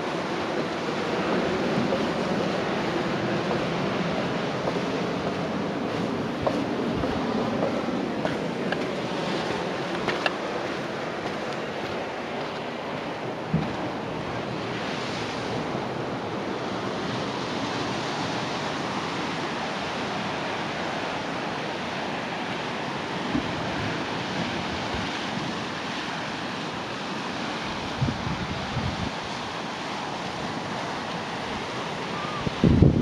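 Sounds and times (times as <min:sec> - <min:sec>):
small waves washing onto beach: 0:00.0 - 0:33.0
wind rushing over microphone: 0:00.0 - 0:33.0.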